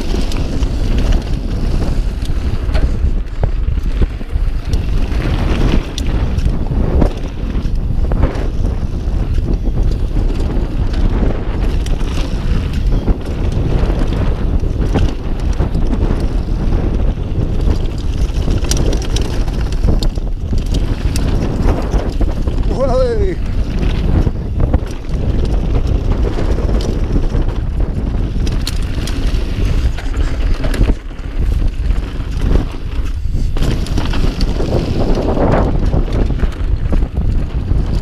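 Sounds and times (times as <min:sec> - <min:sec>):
bike rattling over bumps: 0:00.0 - 0:38.0
wind on microphone: 0:00.0 - 0:38.0.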